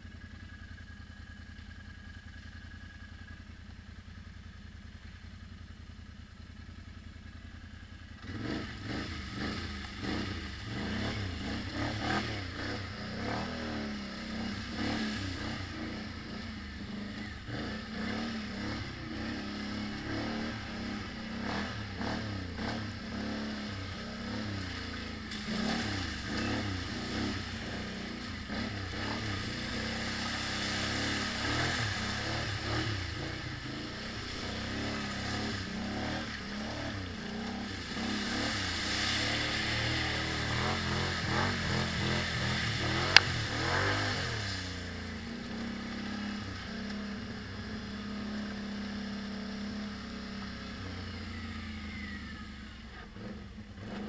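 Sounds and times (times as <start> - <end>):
atv engine revving: 6.1 - 54.0.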